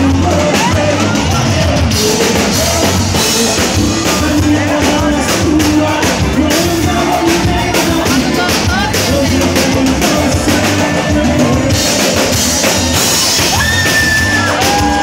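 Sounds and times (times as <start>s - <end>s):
bass guitar: 0.0s - 15.0s
drum kit beat: 0.0s - 15.0s
man singing: 0.0s - 15.0s.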